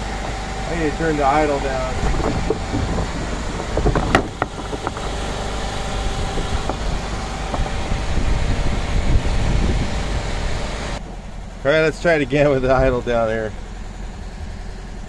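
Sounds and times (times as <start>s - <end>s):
engine running at fast idle: 0.0s - 15.0s.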